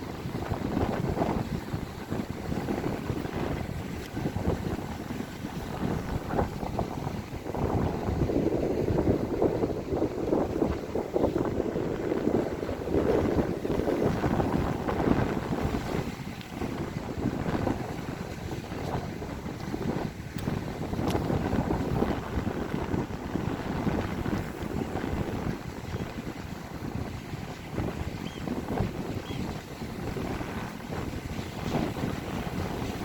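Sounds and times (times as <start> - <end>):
sea water rushing: 0.0 - 33.0
wind buffeting microphone: 0.0 - 33.0.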